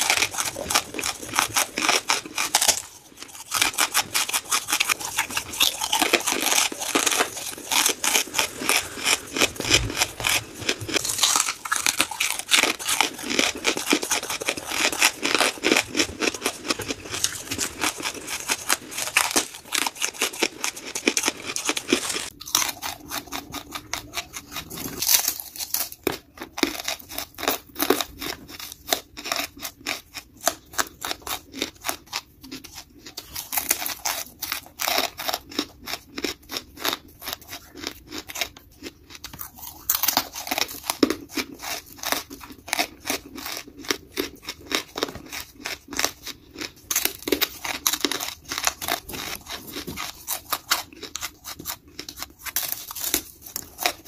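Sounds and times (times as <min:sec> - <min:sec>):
charcoal crunching while chewed: 0:00.0 - 0:54.0.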